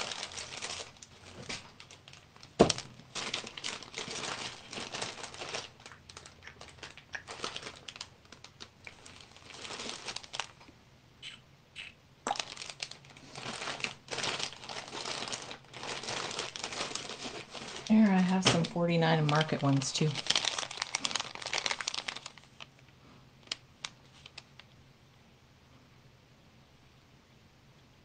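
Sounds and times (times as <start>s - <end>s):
plastic packets crinkling: 0.0s - 24.8s.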